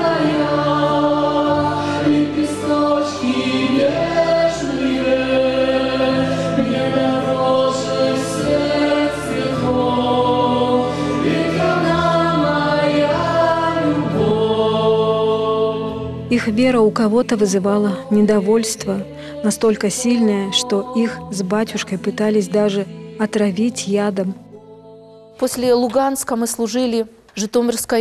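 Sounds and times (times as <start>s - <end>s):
woman and man singing: 0.0s - 25.7s.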